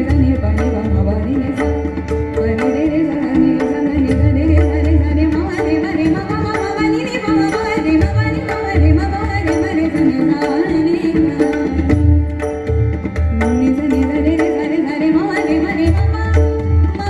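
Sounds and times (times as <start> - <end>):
hand drums playing a rhythm: 0.0 - 17.0.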